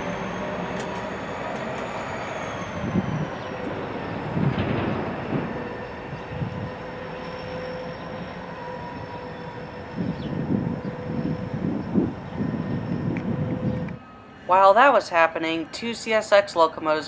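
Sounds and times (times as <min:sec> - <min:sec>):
freight train cars rumbling: 0:00.0 - 0:17.0.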